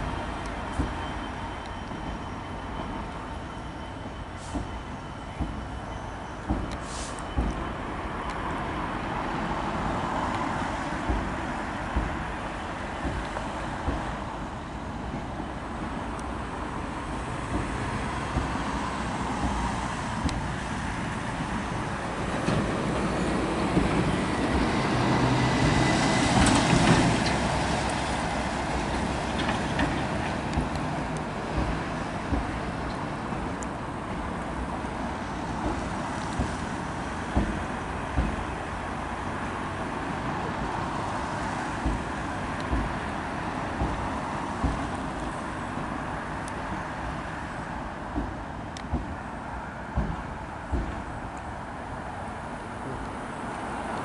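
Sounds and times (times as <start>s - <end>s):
road traffic: 0.0s - 54.0s
train rumbling over bridge: 0.0s - 54.0s.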